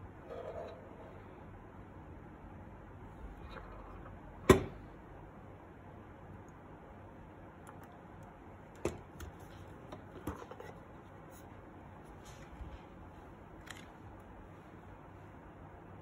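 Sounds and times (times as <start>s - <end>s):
faint room noise: 0.0s - 16.0s.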